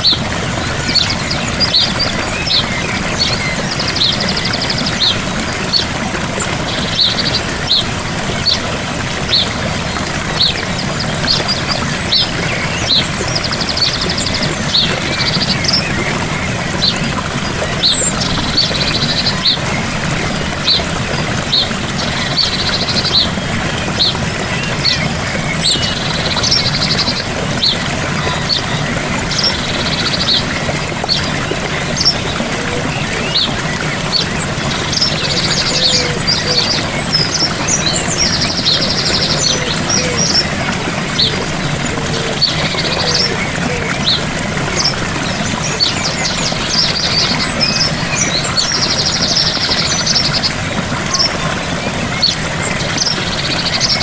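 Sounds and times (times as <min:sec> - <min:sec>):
birds chirping: 0:00.0 - 0:54.0
waterfall rushing: 0:00.0 - 0:54.0.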